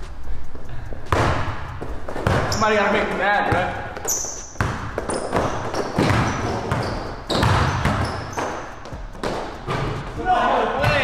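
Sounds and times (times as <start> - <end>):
basketball bouncing on hardwood: 1.1 - 10.2.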